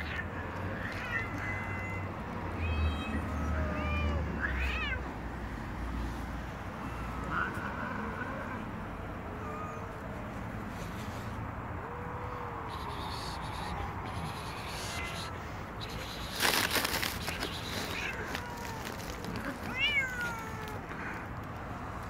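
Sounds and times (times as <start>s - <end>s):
cats meowing: 0.0s - 5.2s, 6.6s - 21.4s.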